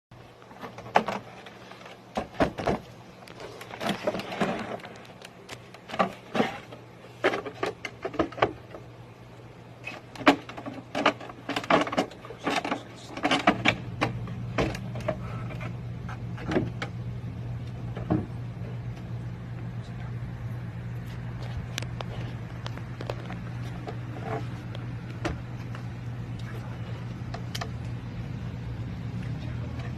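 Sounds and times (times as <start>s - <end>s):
steady low hum: 0.1s - 29.9s.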